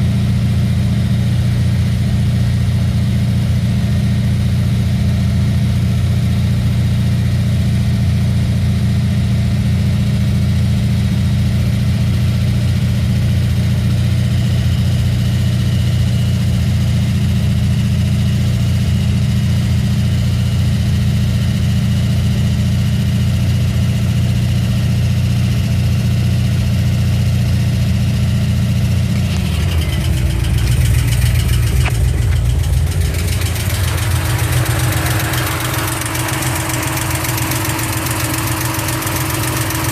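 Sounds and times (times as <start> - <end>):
car engine idling: 0.0 - 39.9
fast ticking engine clatter: 0.1 - 39.9.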